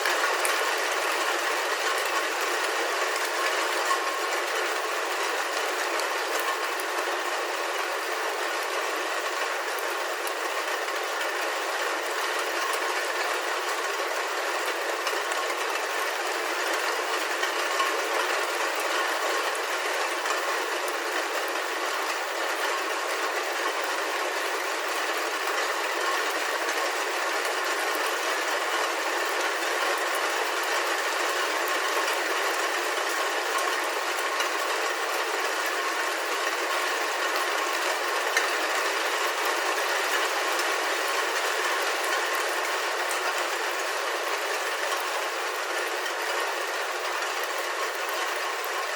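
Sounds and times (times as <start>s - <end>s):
rain falling on a roof: 0.0s - 48.9s.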